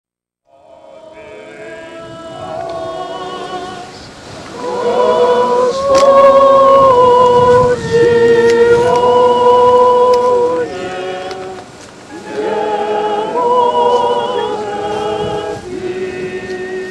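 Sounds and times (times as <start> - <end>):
group of voices singing: 0.5 - 16.9.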